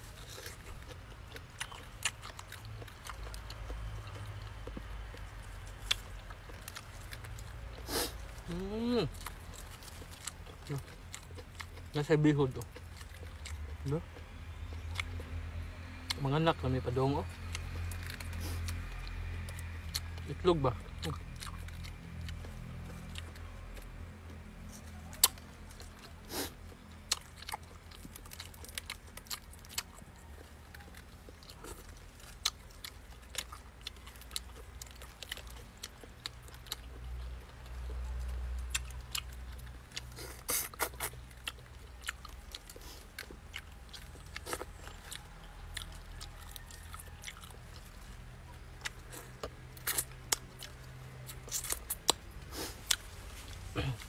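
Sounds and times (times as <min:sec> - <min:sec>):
wet chewing with smacks: 0:00.0 - 0:16.2, 0:17.3 - 0:54.0
low steady hum: 0:00.0 - 0:54.0.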